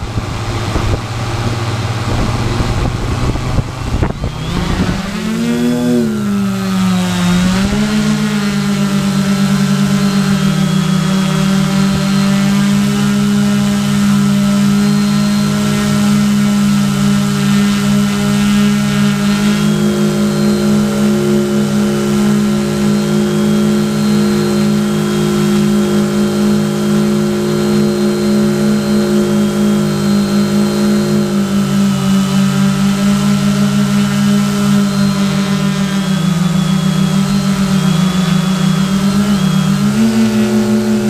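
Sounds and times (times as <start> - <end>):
quadcopter motors buzzing: 0.0 - 41.0.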